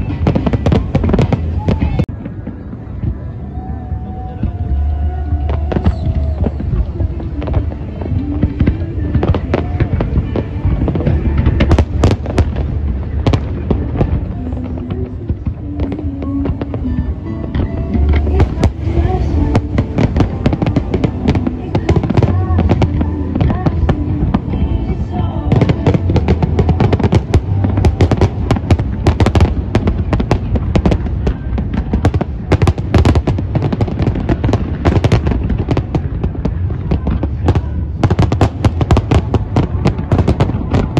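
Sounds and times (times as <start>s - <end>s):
crowd voices: 0.0s - 40.9s
fireworks exploding: 0.0s - 40.9s
music playing: 0.0s - 40.9s.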